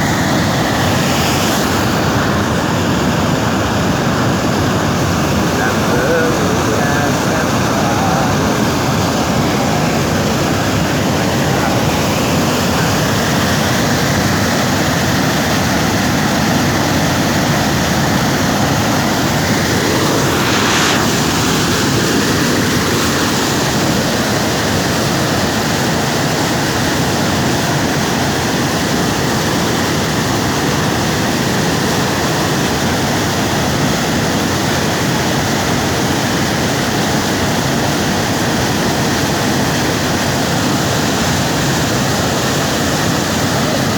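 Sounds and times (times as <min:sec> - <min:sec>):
water rushing from dam: 0:00.0 - 0:43.9.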